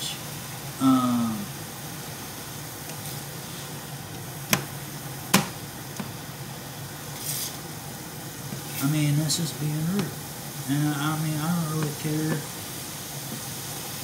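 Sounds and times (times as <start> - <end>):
patties sizzling in a pan: 0.0 - 14.0.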